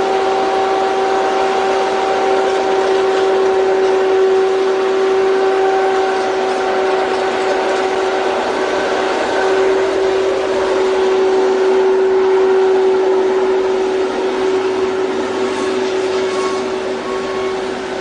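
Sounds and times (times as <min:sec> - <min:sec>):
loud rushing noise: 0:00.0 - 0:18.0
machine humming: 0:00.0 - 0:18.0.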